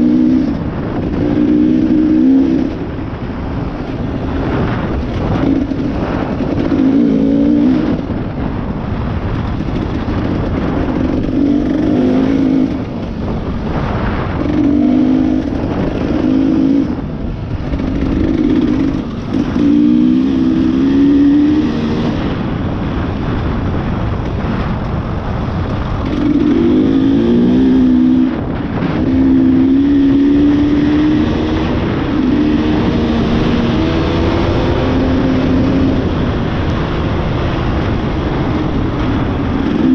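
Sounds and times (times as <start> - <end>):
motorcycle engine revving: 0.0 - 39.9
wind and riding noise: 0.0 - 39.9.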